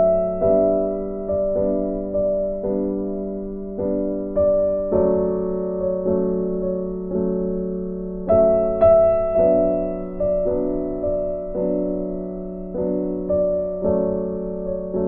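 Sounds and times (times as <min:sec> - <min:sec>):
gentle electric piano chords: 0:00.0 - 0:15.0.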